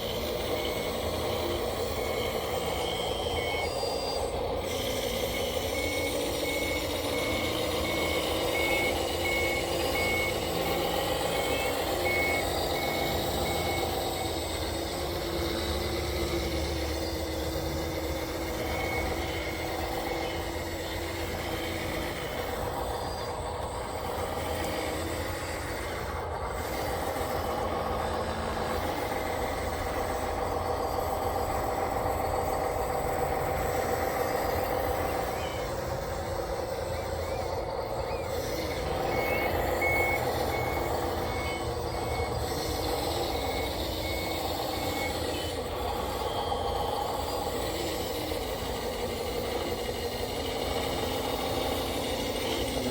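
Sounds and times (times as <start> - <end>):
machine running: 0.0 - 52.9
reversing alarm beeping: 0.0 - 52.9.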